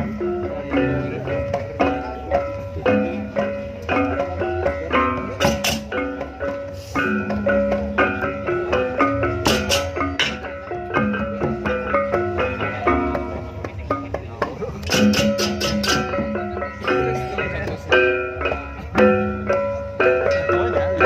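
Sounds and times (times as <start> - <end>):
plucked string and mallet music: 0.0 - 21.0.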